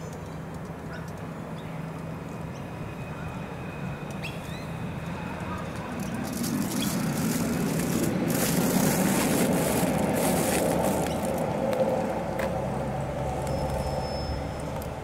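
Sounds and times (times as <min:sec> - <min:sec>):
vehicle rumble passing: 0:02.0 - 0:15.0.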